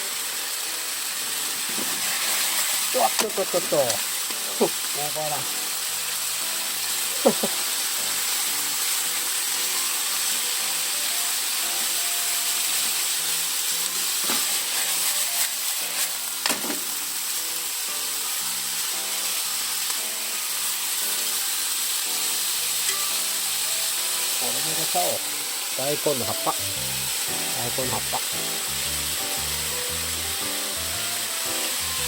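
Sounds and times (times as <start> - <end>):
food sizzling in a frying pan: 0.0 - 32.0.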